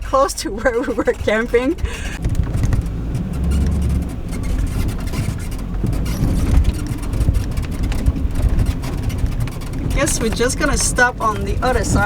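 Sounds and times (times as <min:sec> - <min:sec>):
tyre and road noise: 0:00.0 - 0:12.0
van engine running: 0:00.0 - 0:12.0
small ticks: 0:01.8 - 0:11.7.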